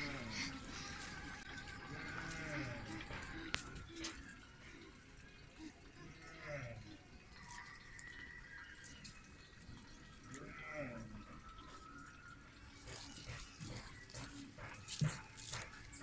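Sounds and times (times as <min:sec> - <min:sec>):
water bubbling in a pot: 0:00.0 - 0:16.0.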